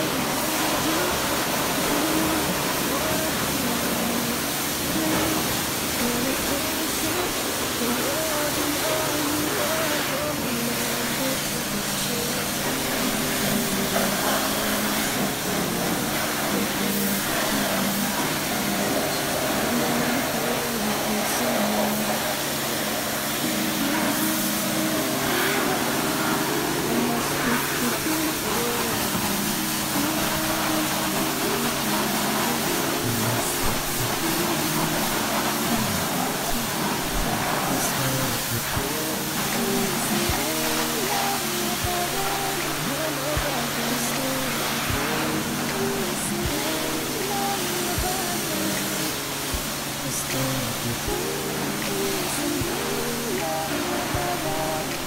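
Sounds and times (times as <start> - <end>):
pressure washer spraying: 0.0 - 55.0.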